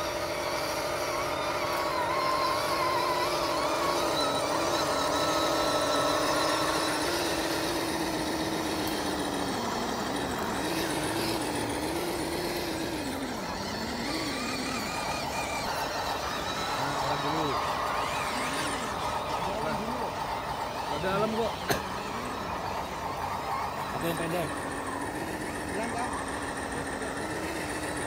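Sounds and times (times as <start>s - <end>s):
rc truck motors whining: 0.0s - 28.0s.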